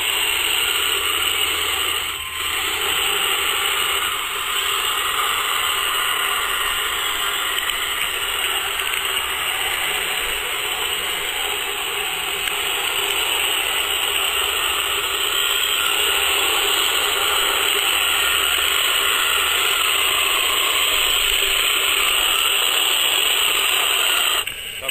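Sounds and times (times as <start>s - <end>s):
model tank motors running: 0.0s - 24.9s.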